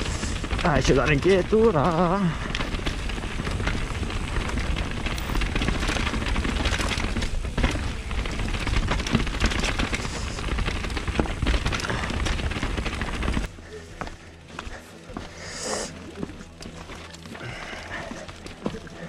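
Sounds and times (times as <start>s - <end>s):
bike rattling over rough ground: 0.0s - 19.0s.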